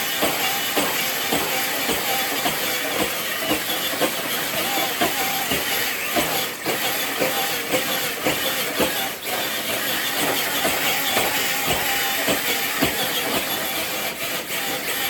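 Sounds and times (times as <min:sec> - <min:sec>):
rc truck motor hiss: 0:00.0 - 0:15.0.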